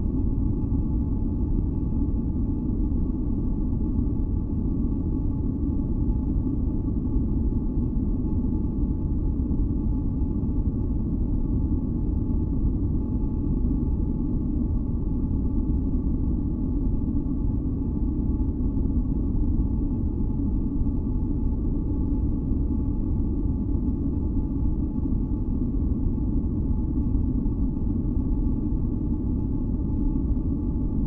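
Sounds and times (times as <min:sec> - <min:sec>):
faint humming tones: 0:00.0 - 0:31.0.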